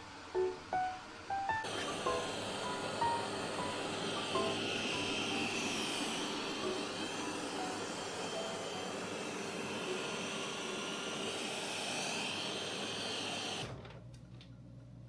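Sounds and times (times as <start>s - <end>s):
robot vacuum running: 0.1s - 13.8s.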